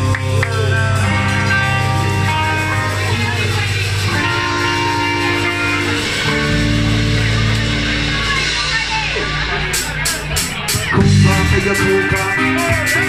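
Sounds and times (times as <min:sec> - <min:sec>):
ska-punk band playing live: 0:00.0 - 0:13.0.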